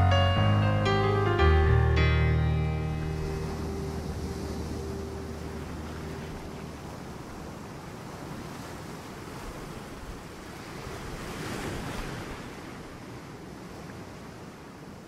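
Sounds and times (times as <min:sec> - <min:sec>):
ocean waves washing in: 0:00.1 - 0:15.0.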